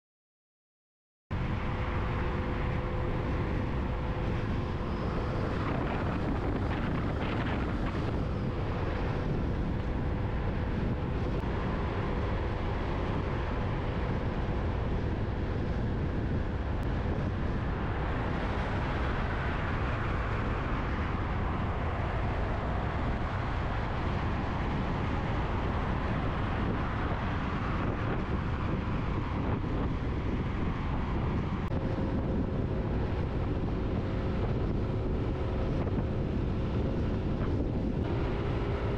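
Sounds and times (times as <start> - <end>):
wind noise on microphone: 1.3 - 38.9.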